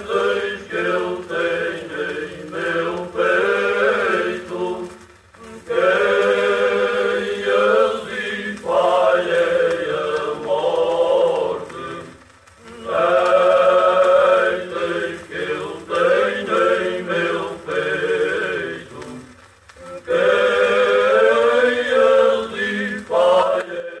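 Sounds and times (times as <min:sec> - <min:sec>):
men's choir singing unaccompanied: 0:00.0 - 0:24.0.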